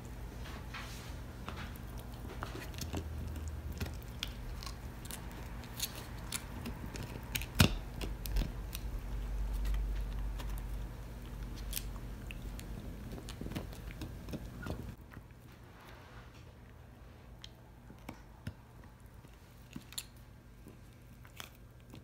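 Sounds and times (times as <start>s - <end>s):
dog crunching chew treat: 1.6s - 15.4s, 17.4s - 22.0s.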